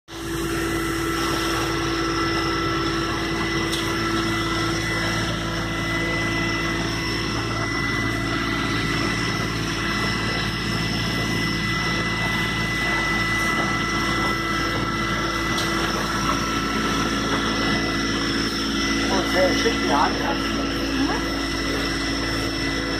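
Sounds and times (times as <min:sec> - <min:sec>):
boat engine droning: 0:00.1 - 0:22.9.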